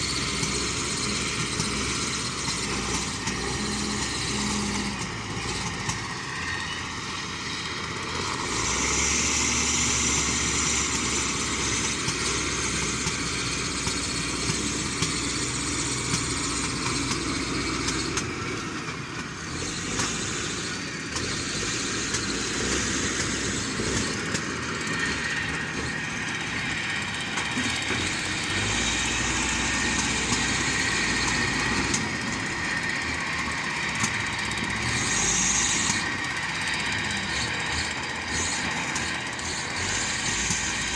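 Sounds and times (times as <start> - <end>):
heavy machinery diesel engine running: 0.0 - 40.9.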